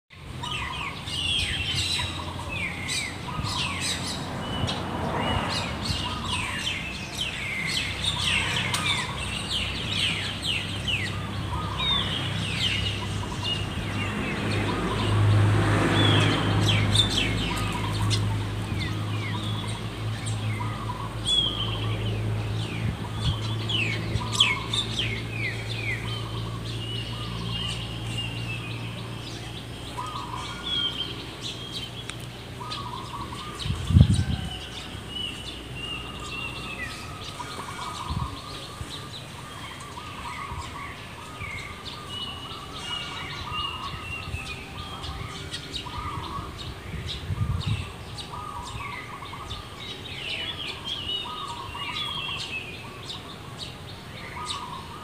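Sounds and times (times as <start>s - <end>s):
birds chirping: 0.1s - 55.0s.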